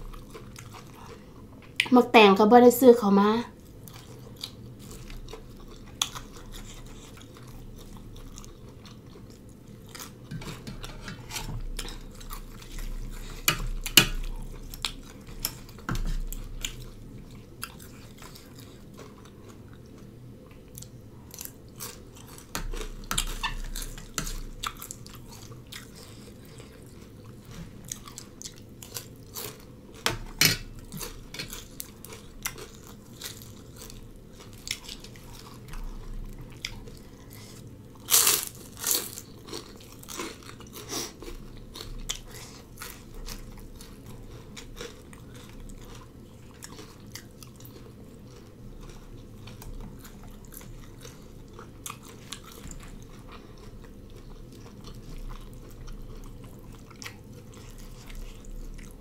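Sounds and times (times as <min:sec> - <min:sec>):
chewing and crunching: 0:00.0 - 0:01.9, 0:03.6 - 0:59.0.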